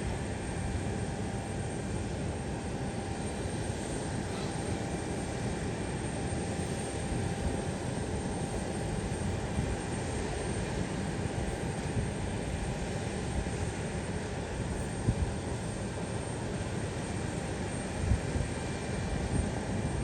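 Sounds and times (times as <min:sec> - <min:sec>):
airliner engines roaring: 0:00.0 - 0:20.0.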